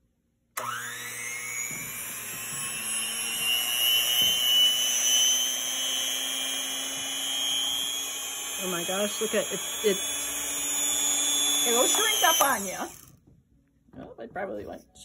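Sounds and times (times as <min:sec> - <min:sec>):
electric mixer whining: 0:00.6 - 0:13.2.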